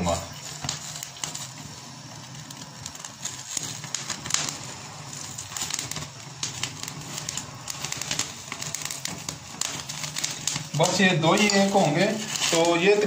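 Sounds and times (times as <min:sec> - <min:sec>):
crackles and pops: 0:00.0 - 0:13.0
gas burner flame rushing: 0:00.0 - 0:13.0.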